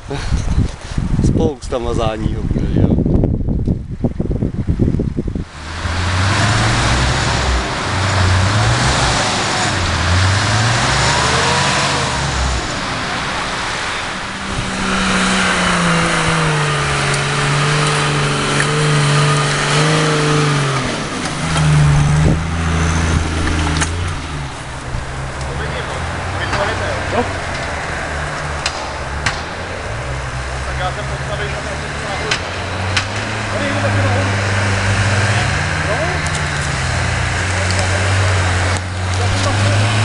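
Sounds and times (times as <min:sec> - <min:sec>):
off-road engines revving: 0:04.8 - 0:40.0.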